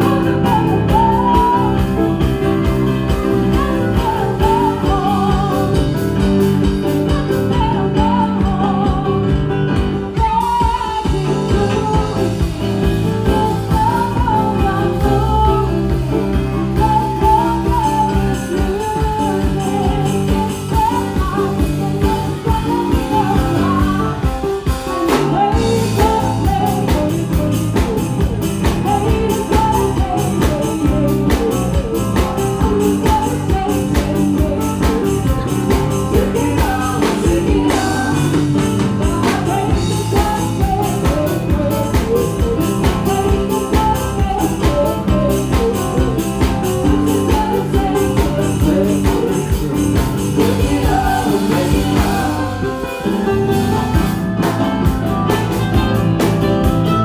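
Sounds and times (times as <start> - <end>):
woman singing into a microphone: 0.0 - 54.5
drum kit: 0.0 - 57.0
keyboard: 0.0 - 57.0.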